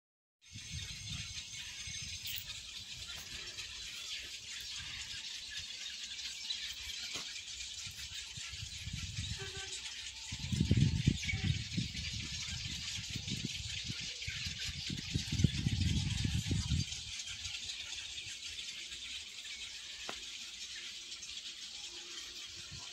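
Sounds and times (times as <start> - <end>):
bird colony chattering: 0.5 - 22.9.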